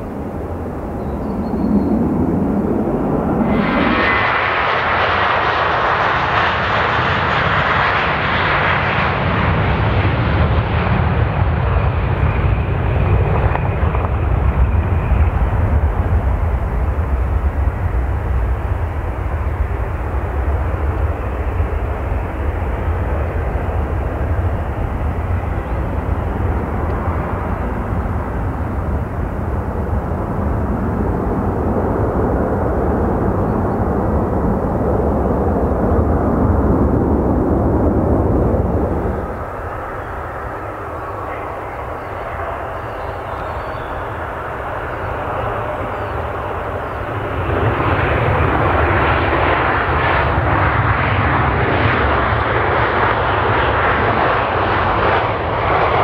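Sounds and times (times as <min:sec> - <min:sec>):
jet airliner engine roar: 0:00.0 - 0:56.0.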